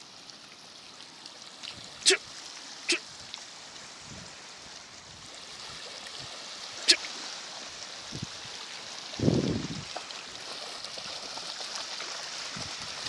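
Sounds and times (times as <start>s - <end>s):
small waves lapping on sand: 0.0s - 13.0s.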